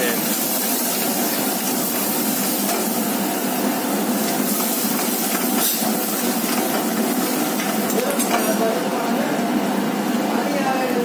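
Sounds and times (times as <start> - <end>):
spices sizzling in hot oil: 0.0 - 8.9
gas burner flame hiss: 0.0 - 10.2.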